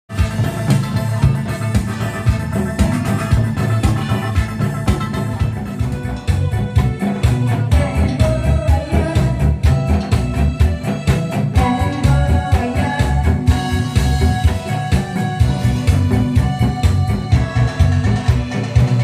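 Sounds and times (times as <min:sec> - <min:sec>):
upbeat trot music with drums: 0:00.1 - 0:19.0.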